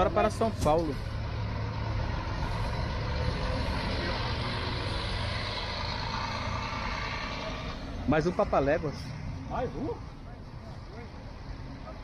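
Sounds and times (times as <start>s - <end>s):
diesel coach engine drone: 0.0s - 12.0s
road hiss: 0.0s - 12.0s.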